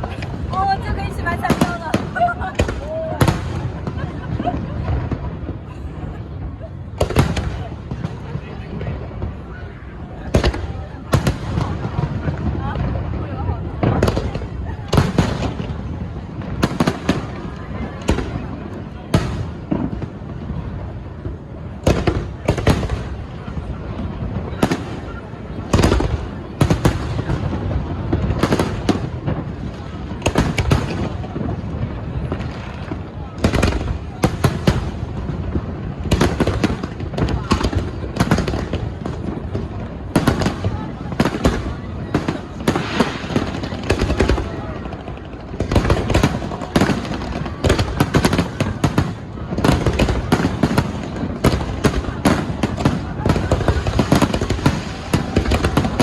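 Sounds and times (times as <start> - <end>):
fireworks crackle and rumble: 0.0 - 56.0
fireworks sharp bangs: 0.0 - 56.0.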